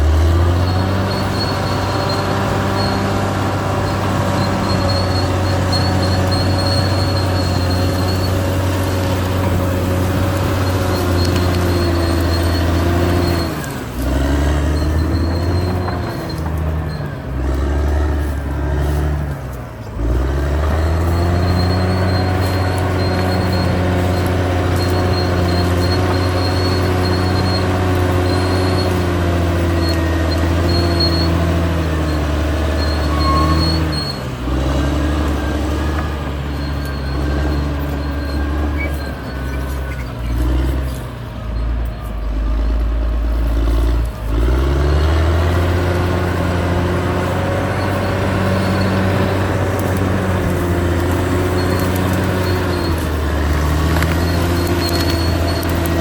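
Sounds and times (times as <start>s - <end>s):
thin high squeal: 0.0s - 17.2s, 20.7s - 42.8s, 45.4s - 56.0s
bulldozer diesel engine under load: 0.0s - 56.0s.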